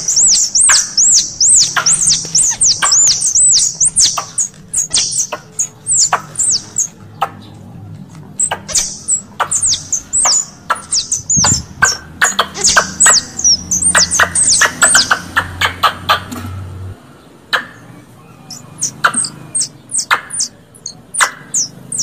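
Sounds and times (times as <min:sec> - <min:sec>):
squirrel chirps: 0:00.0 - 0:07.6, 0:08.4 - 0:16.2, 0:17.5 - 0:22.0.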